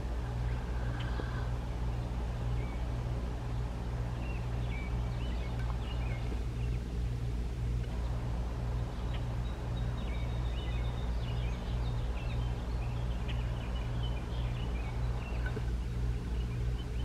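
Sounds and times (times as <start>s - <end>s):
small birds chirping: 0.0s - 17.0s
throbbing low hum: 0.0s - 17.0s.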